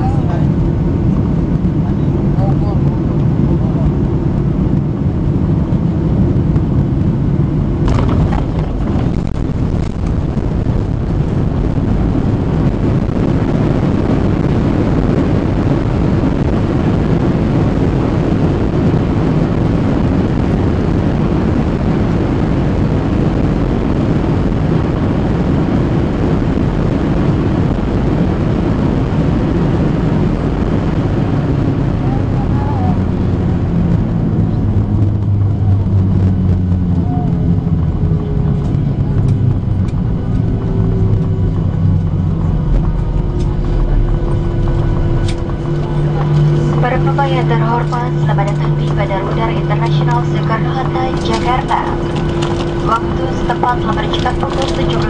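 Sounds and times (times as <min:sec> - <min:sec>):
jet engine and airflow roar: 0:00.0 - 0:55.0.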